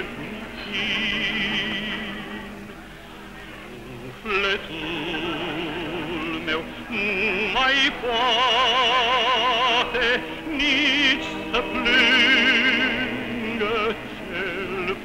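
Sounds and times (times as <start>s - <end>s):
man singing operatically: 0.0s - 2.6s, 4.0s - 15.0s.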